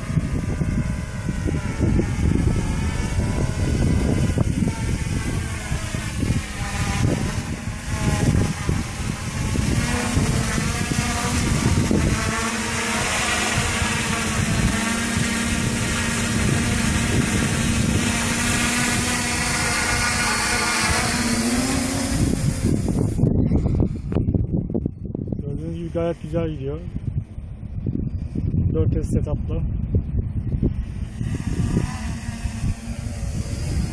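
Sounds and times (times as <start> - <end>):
quadcopter propellers buzzing: 0.0 - 33.9.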